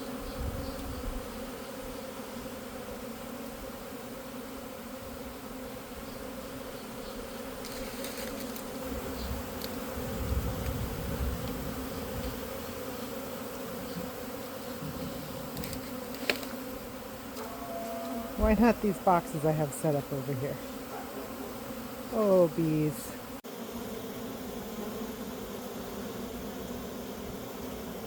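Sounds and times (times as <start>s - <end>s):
bee swarm buzzing: 0.0s - 28.0s.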